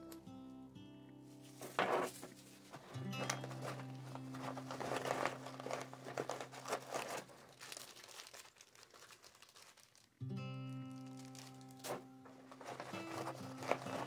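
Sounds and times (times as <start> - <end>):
plastic packaging crinkling: 1.4 - 14.0.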